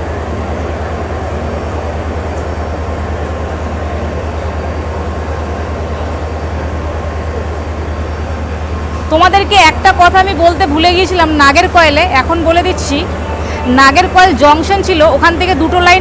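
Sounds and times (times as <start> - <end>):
train coach rumble and hum: 0.0 - 16.0.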